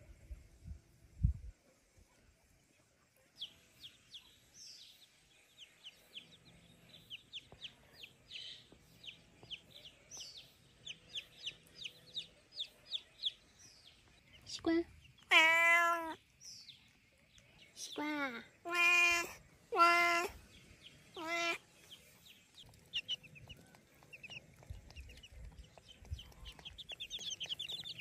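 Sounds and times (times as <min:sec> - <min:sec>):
chicks peeping: 0:03.4 - 0:15.3, 0:16.1 - 0:28.0.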